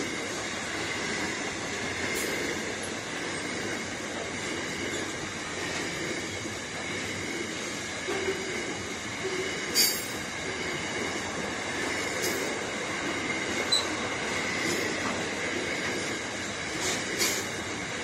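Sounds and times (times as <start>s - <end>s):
freight train rolling on rails: 0.0s - 18.0s.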